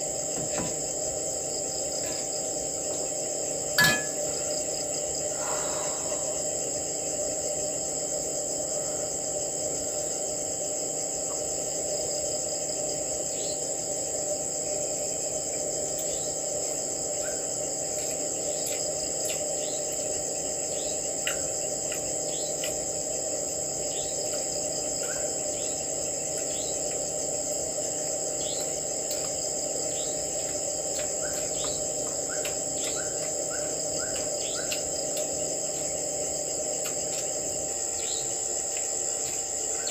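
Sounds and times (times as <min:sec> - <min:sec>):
crickets and insects shrilling: 0:00.0 - 0:39.9
short insect chirps: 0:00.6 - 0:08.0, 0:14.7 - 0:39.9.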